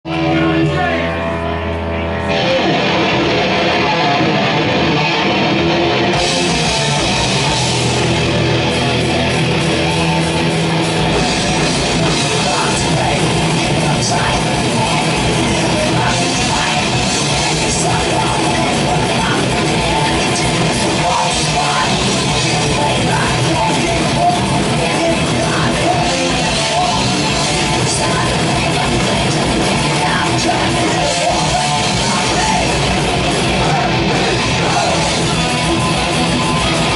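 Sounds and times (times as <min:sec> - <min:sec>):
metal band playing live: 0:00.0 - 0:36.9.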